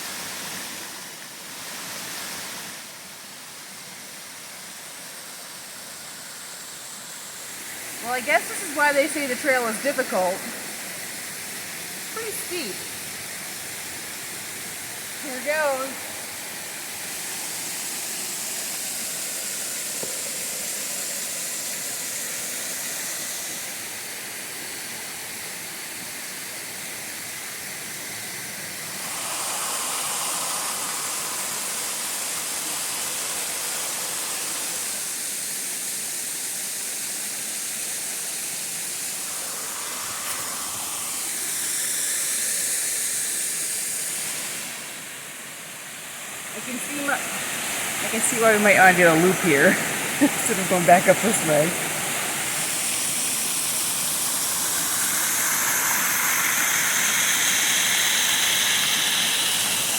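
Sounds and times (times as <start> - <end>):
waterfall rushing over rock: 0.0 - 59.9.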